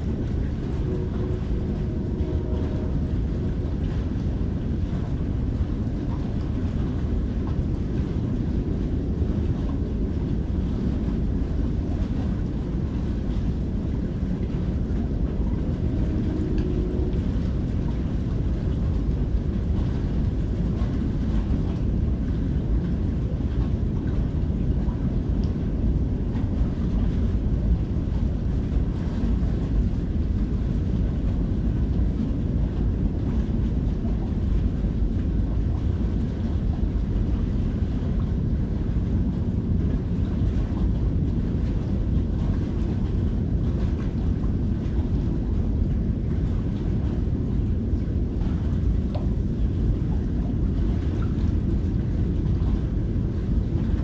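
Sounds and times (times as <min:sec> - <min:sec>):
low outdoor background rumble: 0:00.0 - 0:54.0.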